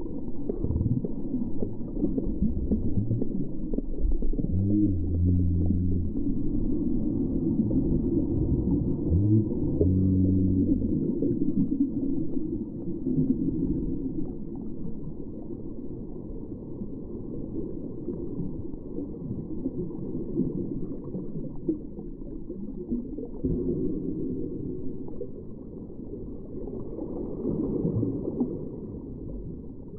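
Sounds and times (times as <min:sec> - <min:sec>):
muffled rumble of ocean water: 0:00.0 - 0:29.9.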